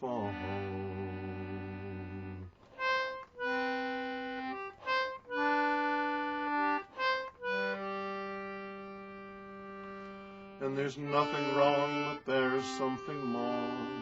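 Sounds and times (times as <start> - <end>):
concertina playing chords: 0.0 - 14.0.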